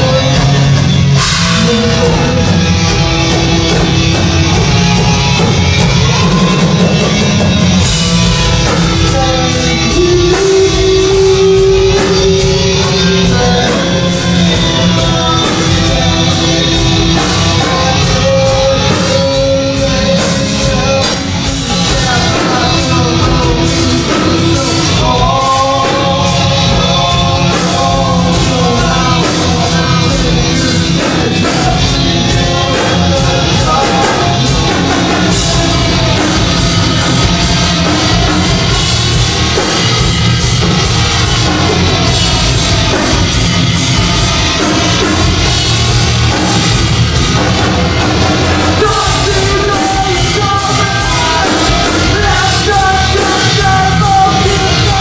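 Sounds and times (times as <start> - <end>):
bass guitar: 0.0 - 55.0
drum kit: 0.0 - 55.0
electric guitar: 0.0 - 55.0
person singing: 0.0 - 55.0.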